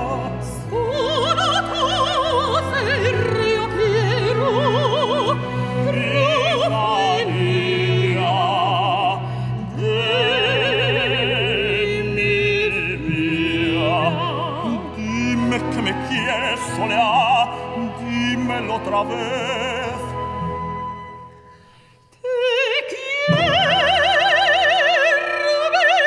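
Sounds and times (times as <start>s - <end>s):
operatic tenor singing: 0.0s - 21.2s, 22.2s - 26.0s
symphony orchestra: 0.0s - 26.0s.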